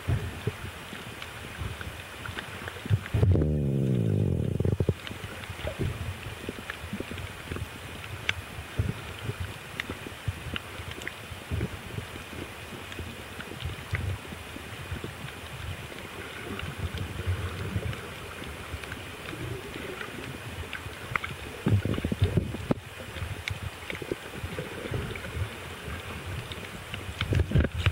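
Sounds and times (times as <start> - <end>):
muffled underwater rumble: 0.0 - 27.9
faint scattered clicks: 4.8 - 14.2, 14.9 - 27.9.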